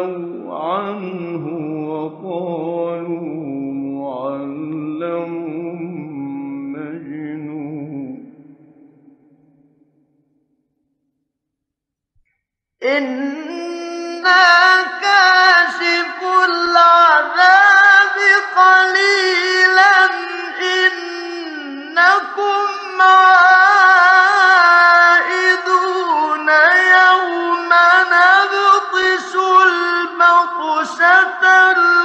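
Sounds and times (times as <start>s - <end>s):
man reciting melodically: 0.0s - 8.4s, 12.8s - 32.0s.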